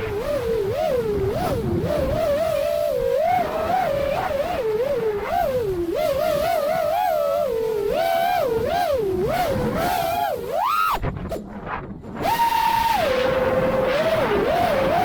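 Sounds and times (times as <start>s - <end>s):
drone motors whining: 0.0s - 11.4s, 12.1s - 15.0s.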